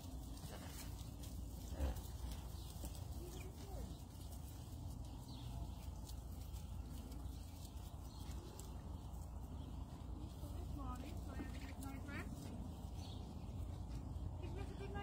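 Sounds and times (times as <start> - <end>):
alpacas crunching grain: 0.0 - 15.0
hooves shuffling on dirt: 0.0 - 15.0.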